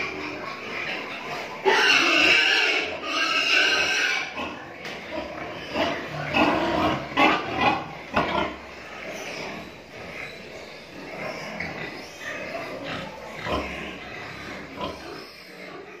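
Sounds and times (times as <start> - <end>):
pig grunts: 0.0 - 16.0
pigs squealing: 0.0 - 16.0.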